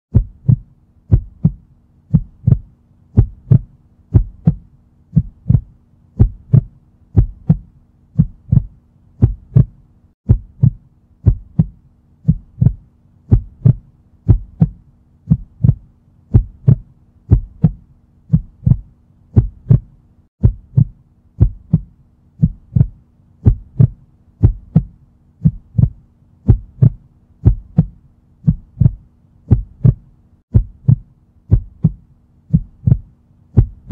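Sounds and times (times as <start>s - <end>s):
faint steady hum: 0.1s - 33.9s
heartbeat double thump: 0.1s - 33.9s.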